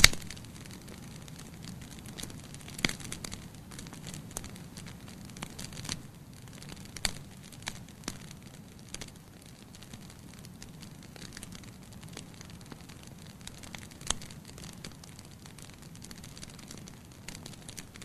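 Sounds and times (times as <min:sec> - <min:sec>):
fireplace fire crackling: 0:00.0 - 0:18.0
low rumble of flames: 0:00.0 - 0:18.0.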